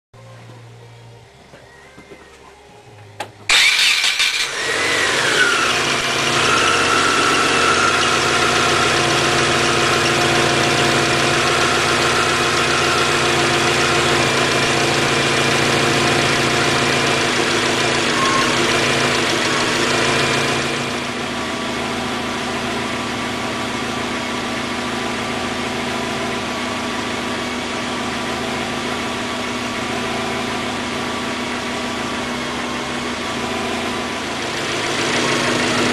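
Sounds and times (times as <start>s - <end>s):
car engine cranking and idling: 0.4s - 35.9s.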